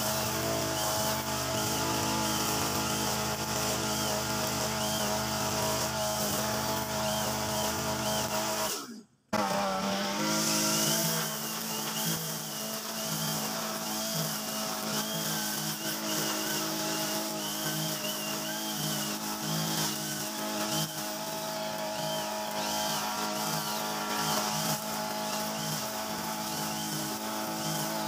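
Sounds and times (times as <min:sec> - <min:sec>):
brush cutter engine running: 0:00.0 - 0:28.0
nylon line cutting grass: 0:00.0 - 0:28.0.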